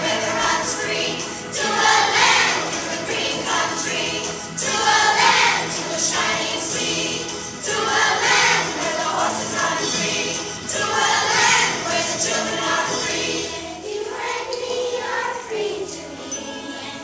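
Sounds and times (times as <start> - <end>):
children singing in choir: 0.0 - 17.0.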